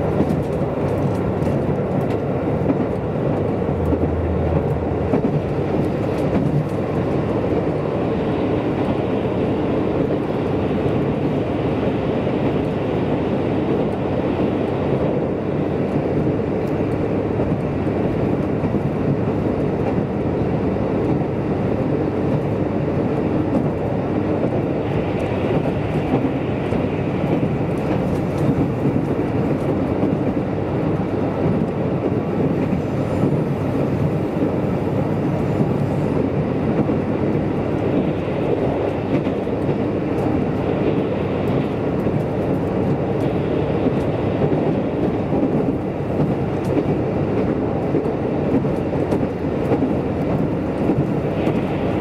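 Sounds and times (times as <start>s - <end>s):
railcar engine running: 0.0s - 52.0s
wheels rumbling on rails: 0.0s - 52.0s.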